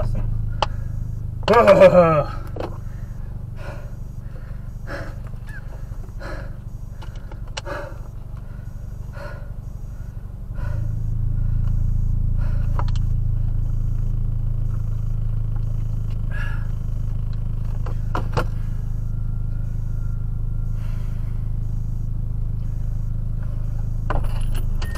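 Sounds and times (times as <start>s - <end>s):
car low hum: 0.0s - 24.9s.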